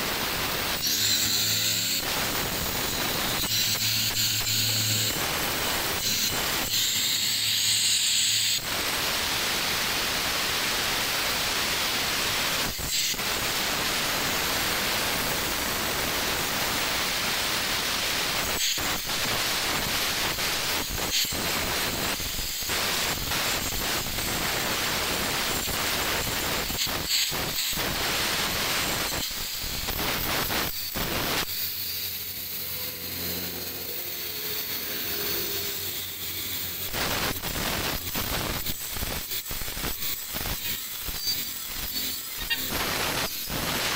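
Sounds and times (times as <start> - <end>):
angle grinder grinding stone: 0.0 - 43.9.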